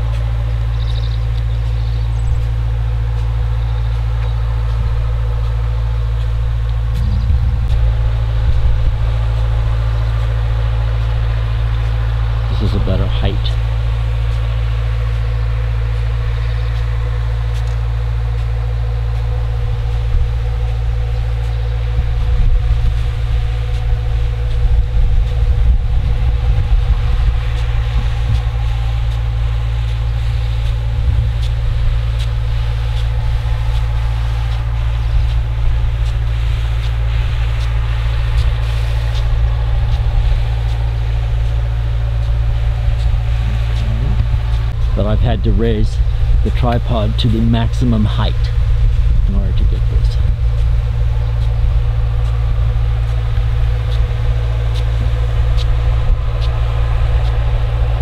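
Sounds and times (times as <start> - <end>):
distant diesel engine drone: 0.0 - 58.0.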